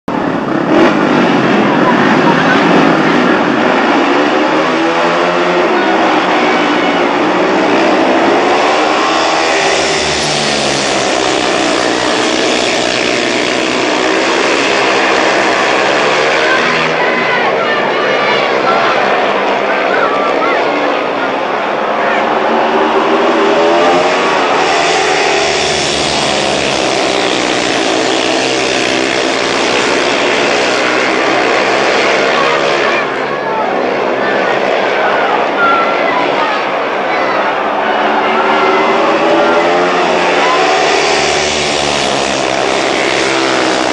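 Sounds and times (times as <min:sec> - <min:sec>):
motorcycles racing: 0:00.0 - 0:43.9.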